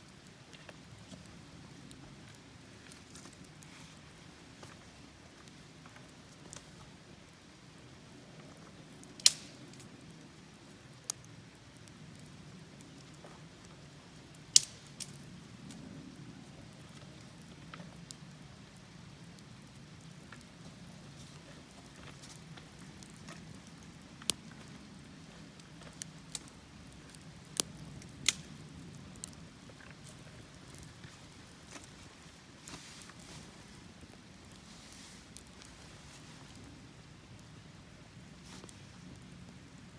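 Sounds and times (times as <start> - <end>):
campfire pops and crackles: 0.0 - 39.9.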